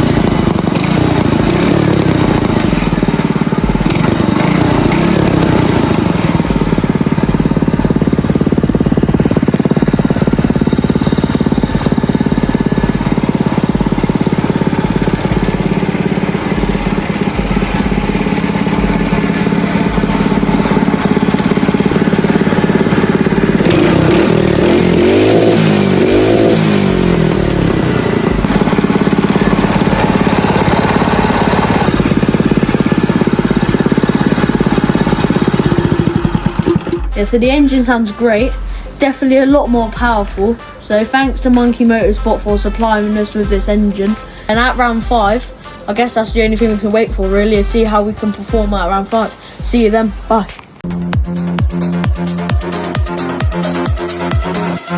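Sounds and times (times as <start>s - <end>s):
go-kart engine revving: 0.0s - 54.9s.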